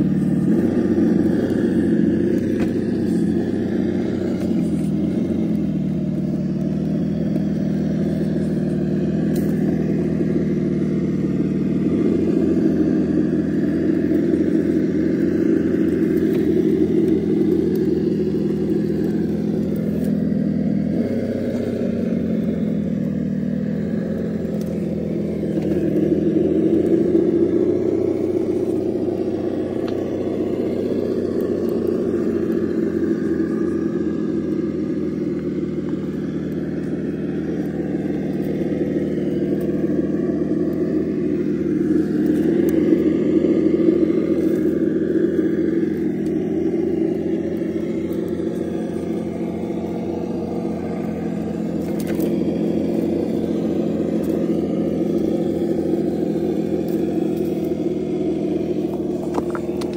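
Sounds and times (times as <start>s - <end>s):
simulated engine rumble from speaker: 0.0s - 59.9s.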